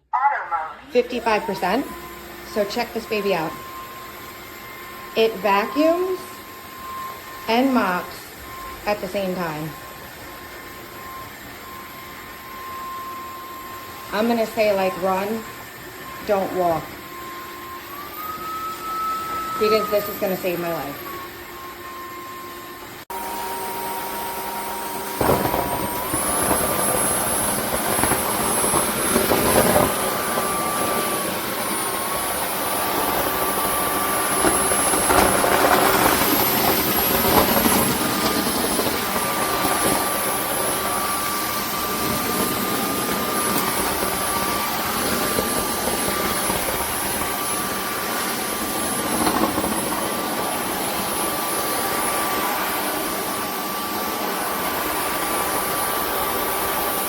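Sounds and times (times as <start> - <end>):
vacuum mop motor whine: 0.8 - 57.0.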